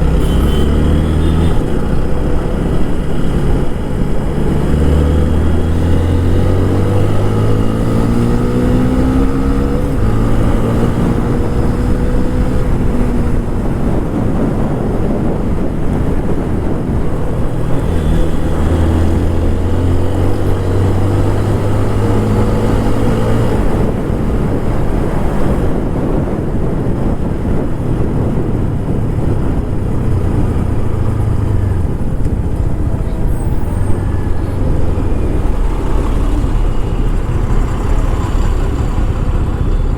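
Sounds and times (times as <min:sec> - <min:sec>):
motorcycle engine accelerating: 0:00.0 - 0:39.9
road rumble: 0:00.0 - 0:39.9
wind on microphone: 0:00.0 - 0:39.9.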